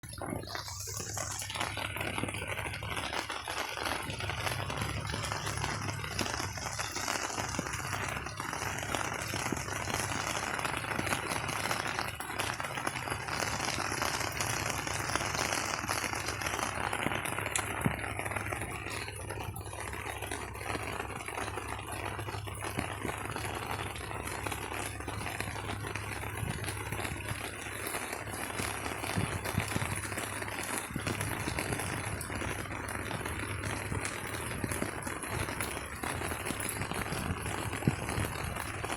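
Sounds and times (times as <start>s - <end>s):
low steady rumble: 0.0s - 38.9s
steady rain patter: 0.0s - 38.9s.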